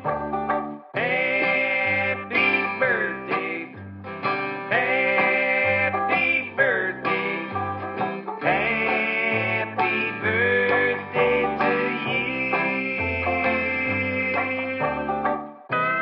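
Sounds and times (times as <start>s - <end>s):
bass line: 0.0s - 16.0s
country song: 0.0s - 16.0s
plucked guitar or banjo: 0.0s - 16.0s
person singing: 1.0s - 3.8s, 4.4s - 16.0s.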